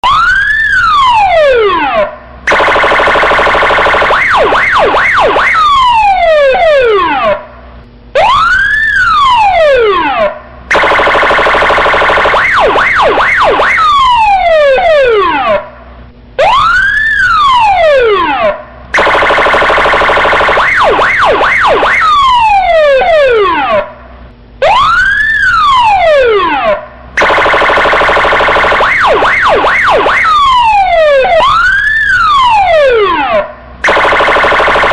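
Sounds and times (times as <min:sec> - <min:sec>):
siren warbling yelp: 0:00.0 - 0:07.6, 0:08.2 - 0:15.8, 0:16.4 - 0:34.9
buzzing siren horn: 0:00.0 - 0:34.9
police siren wailing: 0:00.0 - 0:34.9.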